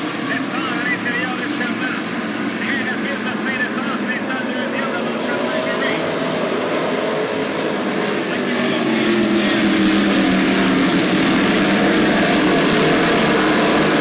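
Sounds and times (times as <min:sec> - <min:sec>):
race car engines droning: 0:00.0 - 0:14.0.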